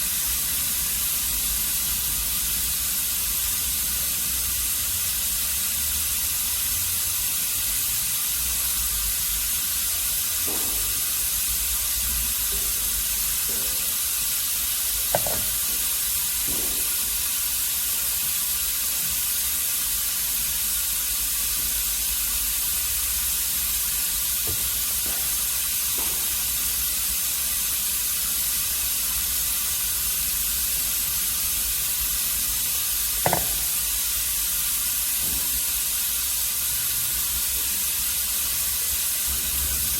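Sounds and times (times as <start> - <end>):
ultrasonic cleaner hissing: 0.0 - 39.9.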